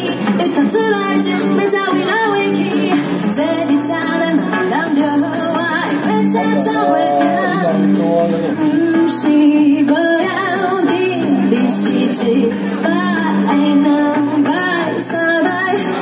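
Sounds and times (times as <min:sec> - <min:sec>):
acoustic and electric guitars: 0:00.0 - 0:16.0
woman singing: 0:00.4 - 0:16.0.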